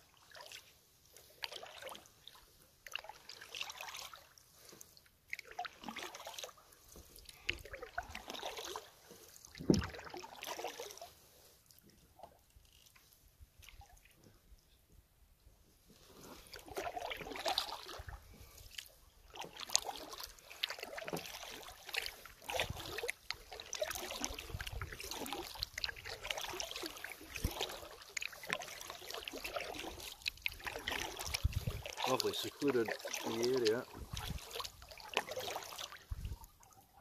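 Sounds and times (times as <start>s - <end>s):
paddle splashing in water: 0.0s - 14.6s, 15.7s - 37.0s
water trickling off paddle: 0.0s - 15.0s, 15.8s - 37.0s.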